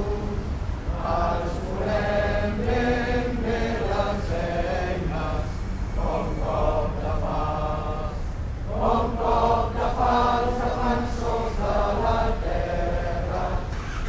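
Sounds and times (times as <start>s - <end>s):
crowd chanting in unison: 0.0s - 13.7s
low steady rumble: 0.0s - 14.0s.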